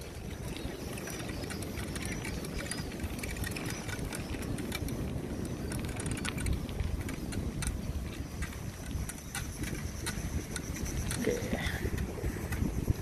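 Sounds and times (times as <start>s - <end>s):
bicycle tyre noise: 0.0s - 13.0s
bike rattling clicks: 0.0s - 13.0s
wind noise on microphone: 0.0s - 13.0s.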